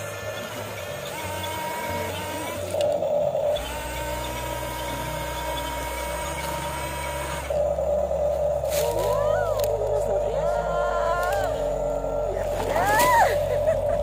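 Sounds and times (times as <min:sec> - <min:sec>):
low hum: 0:00.0 - 0:14.0
small electric motors whining: 0:00.0 - 0:14.0.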